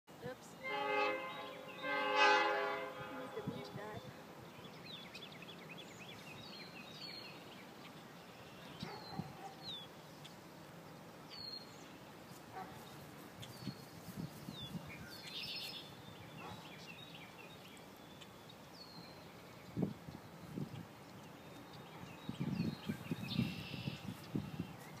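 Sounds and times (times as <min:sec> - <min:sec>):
faint low background noise: 0:00.1 - 0:25.0
birds chirping: 0:00.2 - 0:25.0.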